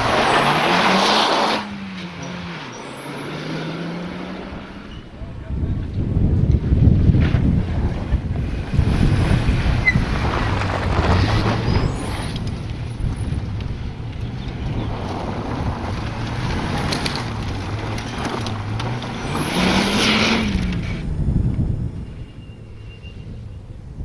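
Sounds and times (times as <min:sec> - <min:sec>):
rally car engine revving: 0:00.0 - 0:23.5.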